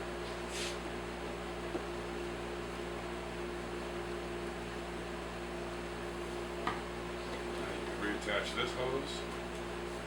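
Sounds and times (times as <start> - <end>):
background hiss and hum: 0.0 - 10.0.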